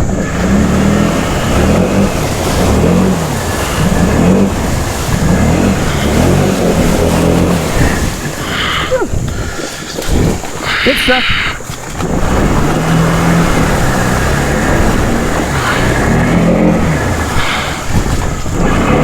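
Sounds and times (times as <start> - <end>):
atv churning through mud: 0.0 - 19.0
atv engine revving: 0.0 - 19.0.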